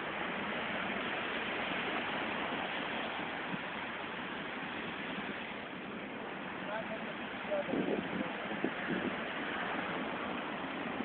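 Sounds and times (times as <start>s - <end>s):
waves rushing on seawall: 0.0s - 11.0s.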